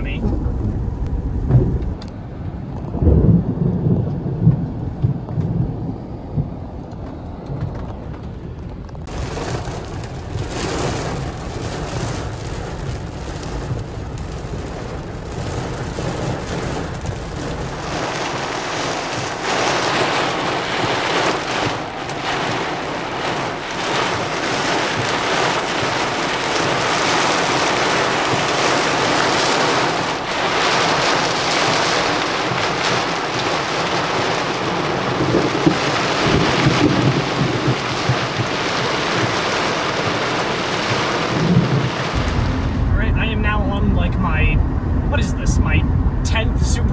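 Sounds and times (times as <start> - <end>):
heavy rain falling: 0.0 - 2.1, 8.8 - 46.9
low rumbles of thunder: 0.0 - 46.9.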